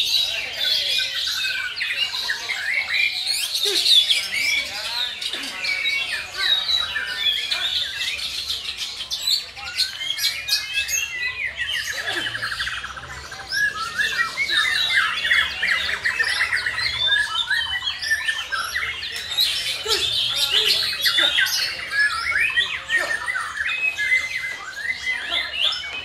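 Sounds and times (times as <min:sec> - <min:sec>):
songbirds singing in chorus: 0:00.0 - 0:26.0.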